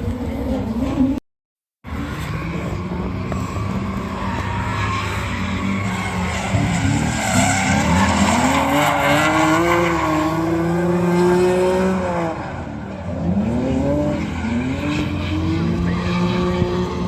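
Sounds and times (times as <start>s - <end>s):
racing engine accelerating: 1.9s - 17.0s.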